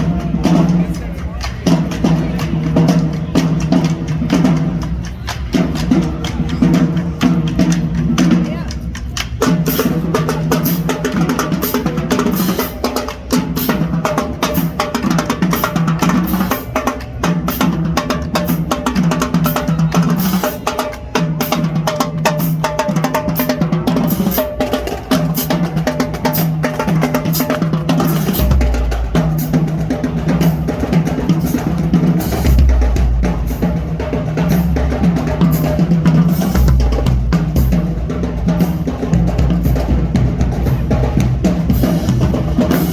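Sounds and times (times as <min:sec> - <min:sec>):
fast dense drumming: 0:00.0 - 0:42.9.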